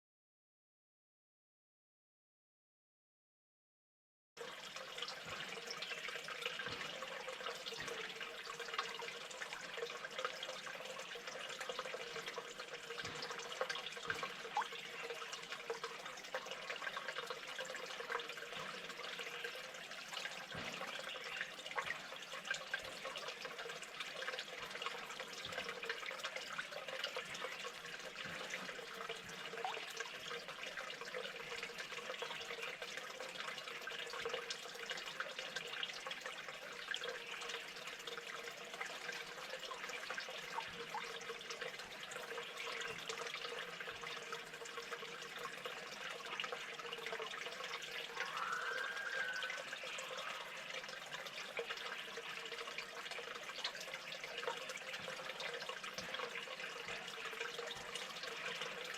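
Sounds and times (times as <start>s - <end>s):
running water trickling: 4.4s - 58.9s.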